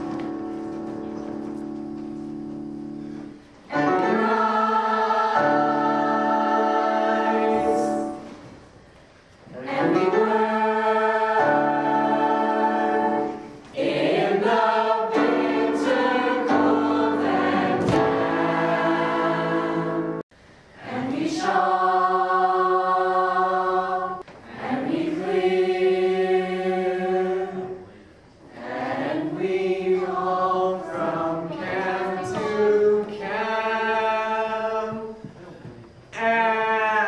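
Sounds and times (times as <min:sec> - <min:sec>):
choir singing held chords: 0:00.0 - 0:08.5, 0:09.5 - 0:35.3.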